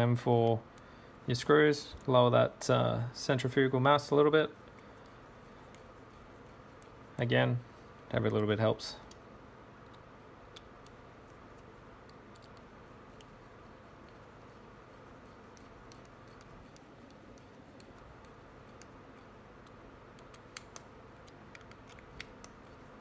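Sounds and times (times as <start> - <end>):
low steady hiss: 0.0 - 23.0.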